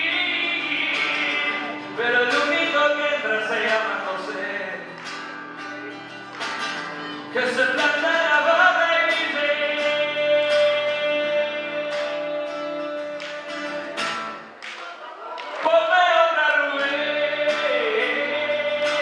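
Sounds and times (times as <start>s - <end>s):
man singing: 0.0s - 5.0s, 7.0s - 14.0s, 14.8s - 19.0s
strummed acoustic guitar: 0.0s - 19.0s.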